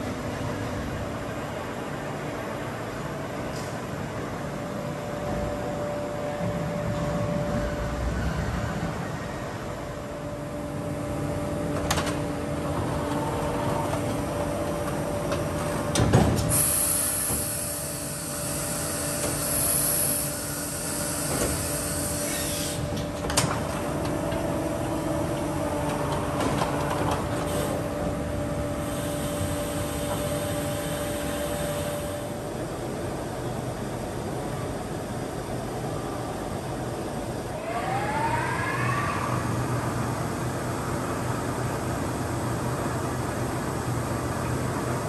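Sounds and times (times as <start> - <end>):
heavy machinery hum: 0.0 - 45.0.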